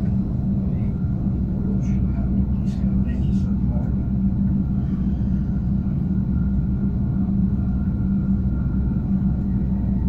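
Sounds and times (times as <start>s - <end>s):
electric train hum and rumble: 0.0s - 10.0s.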